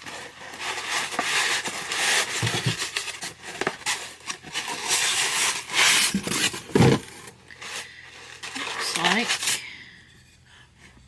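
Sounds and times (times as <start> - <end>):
packaging rustling and scraping: 0.0 - 9.6.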